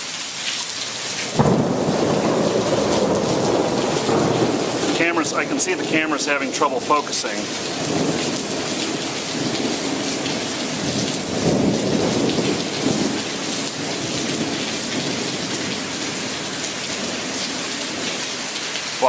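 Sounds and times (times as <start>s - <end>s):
rain hissing: 0.0s - 19.0s
thunder rumbling: 1.3s - 18.1s.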